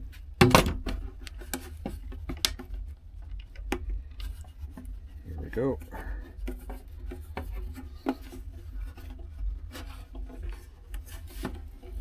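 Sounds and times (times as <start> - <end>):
fitting rubbing and scraping: 0.0 - 12.0
steady low rumble: 0.0 - 12.0.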